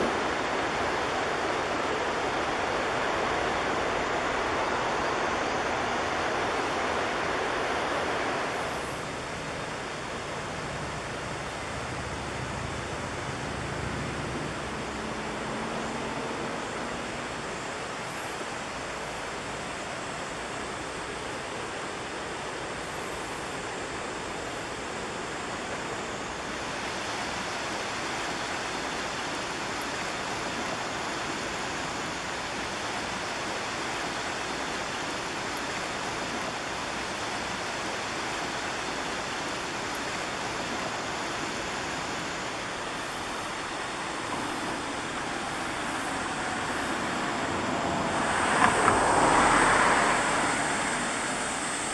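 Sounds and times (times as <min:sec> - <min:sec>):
river rushing over rapids: 0:00.0 - 0:51.9.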